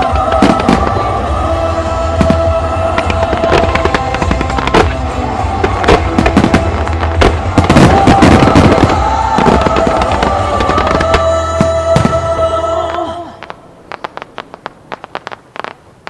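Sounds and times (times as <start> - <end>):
music soundtrack: 0.0 - 13.8
fireworks bursting and crackling: 0.0 - 16.0.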